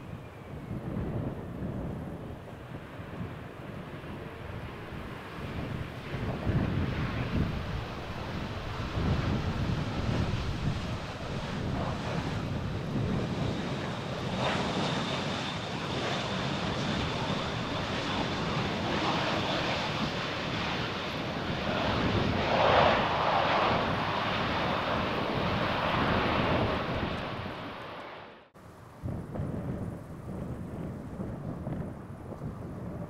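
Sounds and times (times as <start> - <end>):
jet airliner passing: 0.0 - 33.0.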